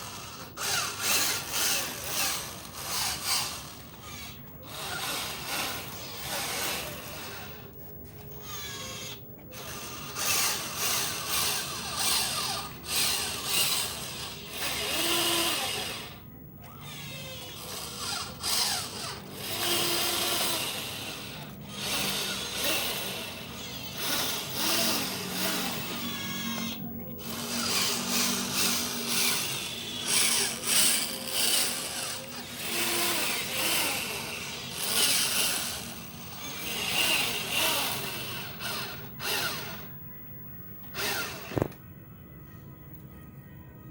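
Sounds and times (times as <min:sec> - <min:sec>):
toy truck motor whirring: 0:00.0 - 0:40.1, 0:40.8 - 0:41.8.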